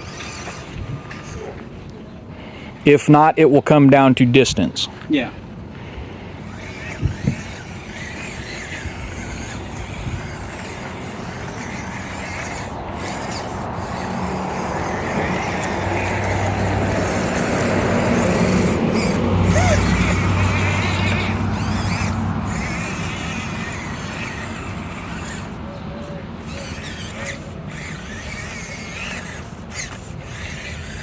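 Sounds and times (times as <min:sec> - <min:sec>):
small electric motor whirring: 0:00.0 - 0:03.4, 0:04.5 - 0:31.0.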